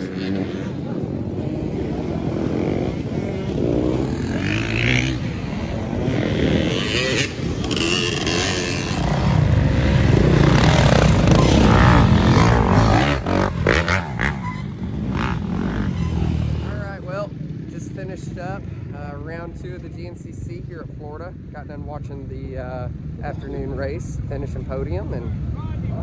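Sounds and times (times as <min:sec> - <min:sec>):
dirt bike engines revving: 0:00.0 - 0:26.0.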